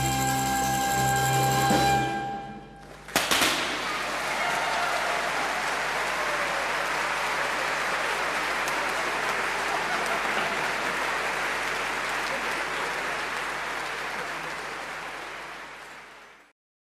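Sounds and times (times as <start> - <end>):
audience applauding: 2.8 - 16.5.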